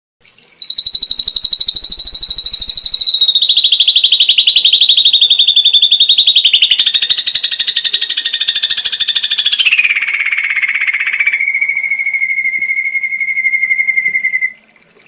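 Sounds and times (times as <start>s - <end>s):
bird trilling: 0.6s - 14.6s.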